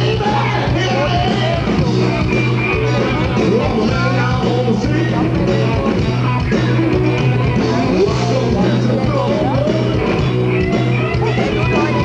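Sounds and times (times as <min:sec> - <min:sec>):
person singing into a microphone: 0:00.0 - 0:06.7, 0:07.3 - 0:10.3
bass guitar: 0:00.0 - 0:12.0
electric guitars: 0:00.0 - 0:12.0.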